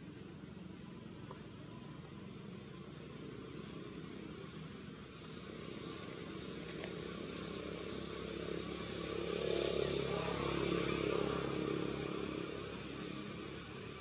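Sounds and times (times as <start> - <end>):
motor vehicle engine drone: 0.0 - 14.0.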